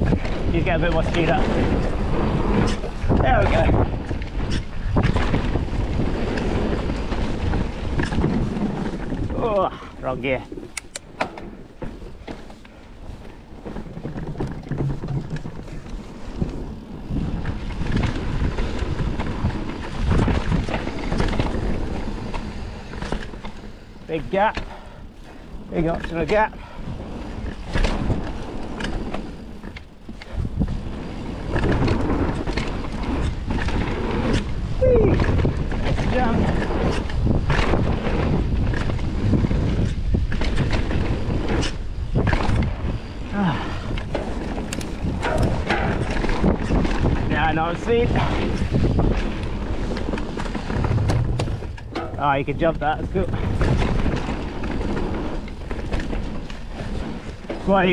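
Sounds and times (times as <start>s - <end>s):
bike clicks and rattles: 0.0s - 57.9s
bike tyres rumbling on dirt: 0.0s - 57.9s
wind on microphone: 0.0s - 57.9s.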